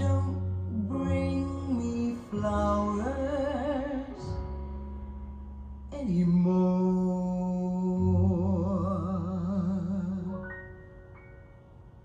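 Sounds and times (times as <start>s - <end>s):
slow vocal ballad over speakers: 0.0s - 5.1s, 5.8s - 10.8s.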